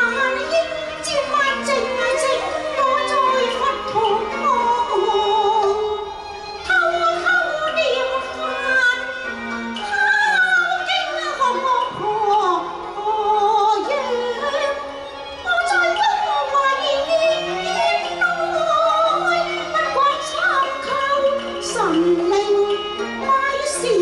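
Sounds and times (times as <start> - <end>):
instrumental accompaniment: 0.0 - 24.0
woman singing opera with vibrato: 0.0 - 24.0.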